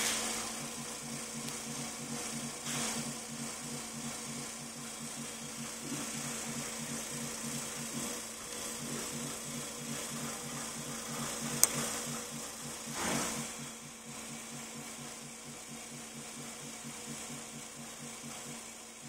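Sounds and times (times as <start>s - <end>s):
machine pulsing hum: 0.0s - 19.0s.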